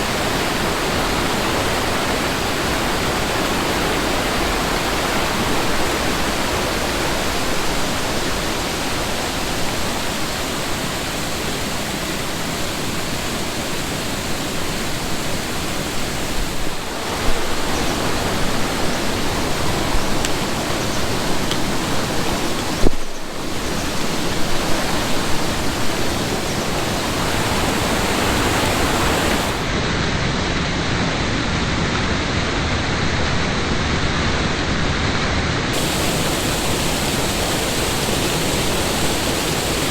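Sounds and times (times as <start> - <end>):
waterfall rushing: 0.0 - 30.0, 35.7 - 39.9.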